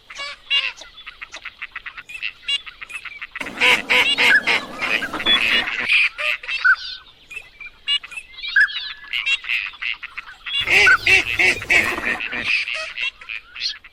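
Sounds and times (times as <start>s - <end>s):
birds calling in chorus: 0.8s - 12.8s.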